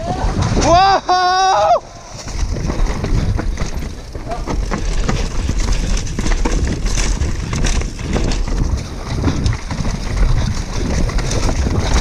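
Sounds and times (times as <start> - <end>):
bike knocking and rattling: 0.0 - 12.0
bike tyres rolling over roots: 0.0 - 12.0
wind buffeting microphone: 0.0 - 12.0.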